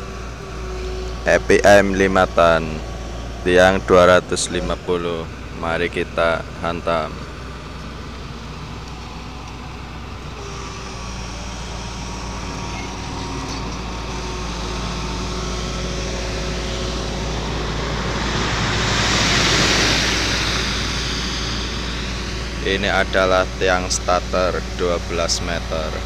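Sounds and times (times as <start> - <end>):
piling rig engine running: 0.0 - 26.0.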